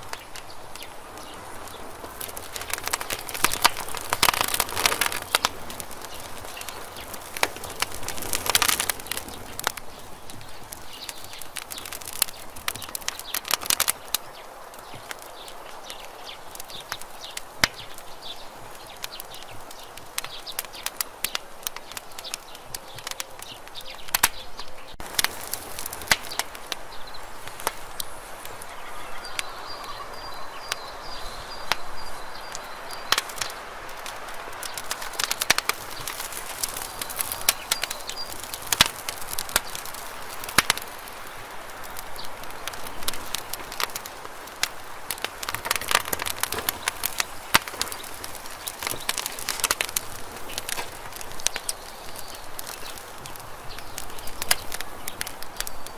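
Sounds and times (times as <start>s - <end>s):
flame hissing: 0.0s - 24.3s, 25.0s - 55.9s
campfire crackling and popping: 0.0s - 55.9s.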